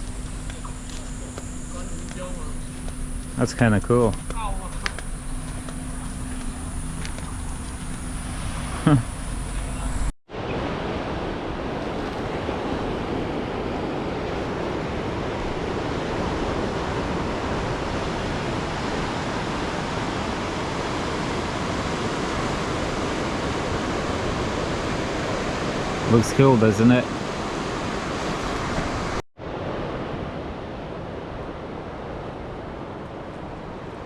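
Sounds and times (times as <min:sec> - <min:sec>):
ocean surf rushing: 0:05.8 - 0:34.0.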